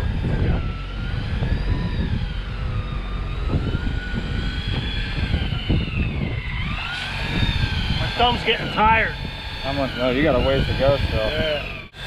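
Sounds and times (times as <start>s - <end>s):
fishing reel motor whining: 0.0s - 12.0s
low rumbling noise: 0.0s - 12.0s.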